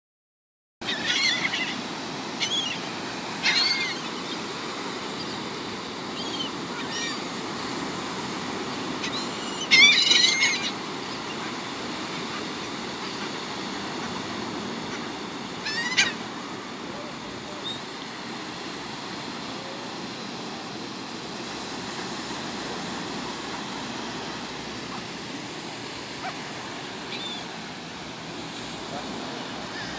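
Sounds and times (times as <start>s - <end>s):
gulls calling: 0.8s - 29.9s
surf washing: 0.8s - 29.9s.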